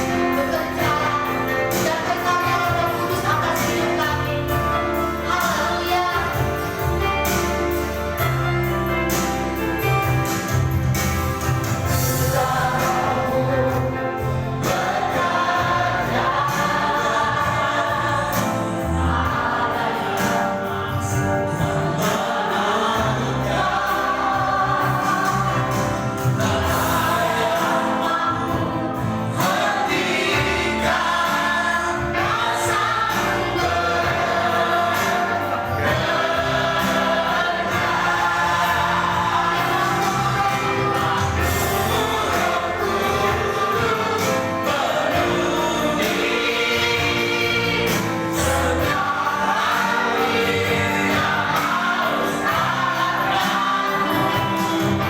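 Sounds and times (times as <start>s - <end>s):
group singing gospel song: 0.0s - 55.0s.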